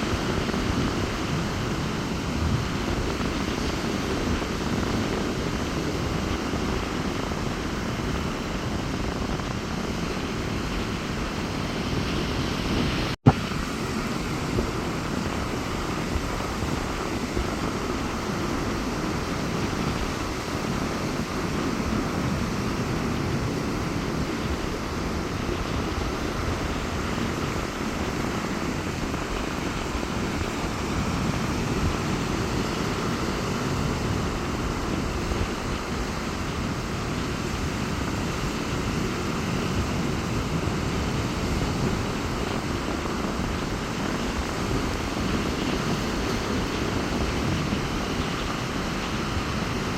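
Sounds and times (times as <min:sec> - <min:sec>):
rough surf washing onto sand: 0:00.0 - 0:49.9
wind rumbling on microphone: 0:00.0 - 0:49.9.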